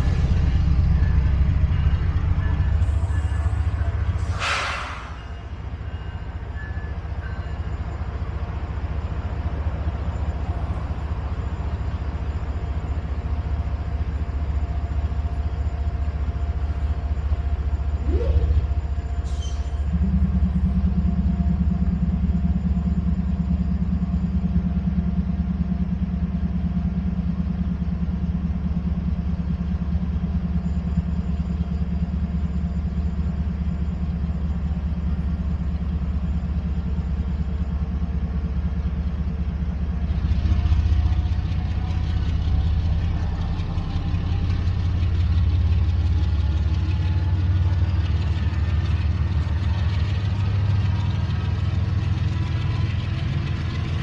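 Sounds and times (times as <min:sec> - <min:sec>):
diesel locomotive engine rumble: 0:00.0 - 0:54.0.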